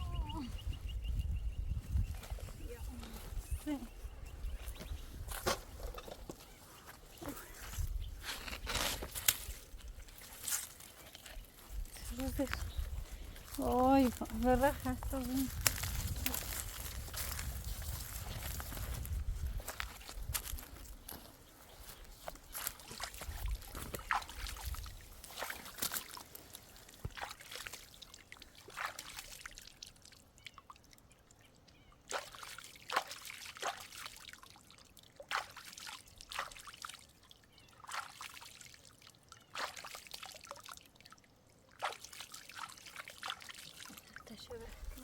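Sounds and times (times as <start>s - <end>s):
water trickling and splashing: 1.7s - 45.0s.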